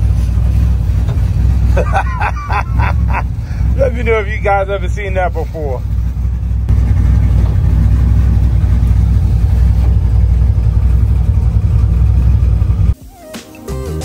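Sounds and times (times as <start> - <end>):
pickup engine rumbling: 0.0 - 13.0.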